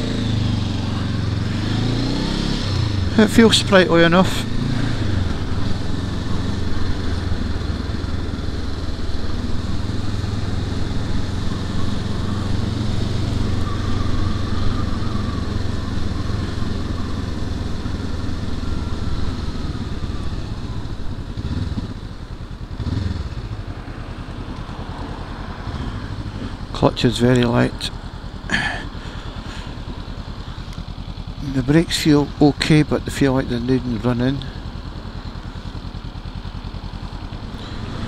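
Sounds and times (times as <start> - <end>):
motorcycle engine running: 0.0 - 38.0
road and wind noise: 0.0 - 38.0.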